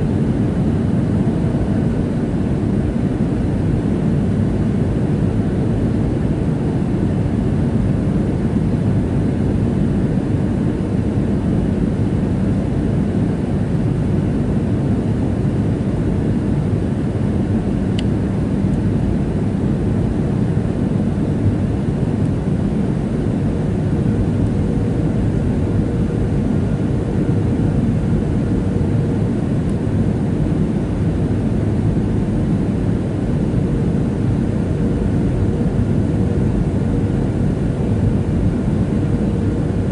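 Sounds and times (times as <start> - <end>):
faint steady hum: 0.0 - 39.9
jet engine cabin rumble: 0.0 - 39.9.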